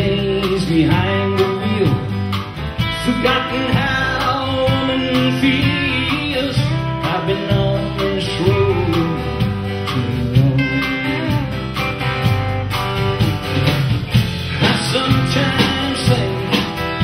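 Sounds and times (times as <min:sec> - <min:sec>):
acoustic guitar: 0:00.0 - 0:17.0
drum kit: 0:00.0 - 0:17.0
electric bass: 0:00.0 - 0:17.0.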